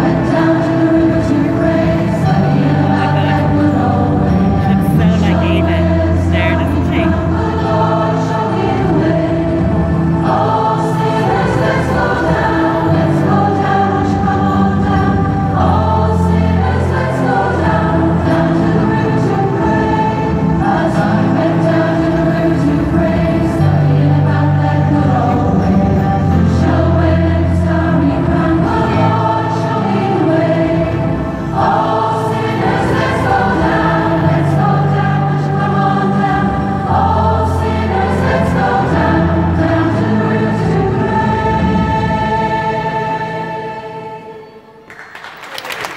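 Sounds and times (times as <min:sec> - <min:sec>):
choir singing: 0:00.0 - 0:45.9
keyboard accompaniment: 0:00.0 - 0:45.9.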